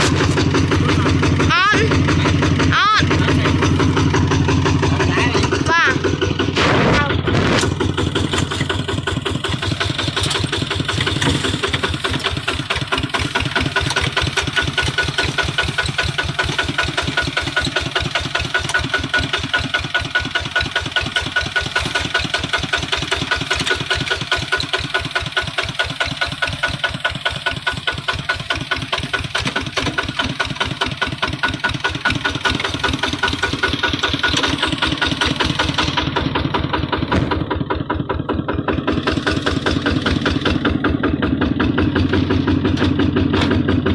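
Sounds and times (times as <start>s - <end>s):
diesel engine knocking steadily: 0.0s - 43.9s.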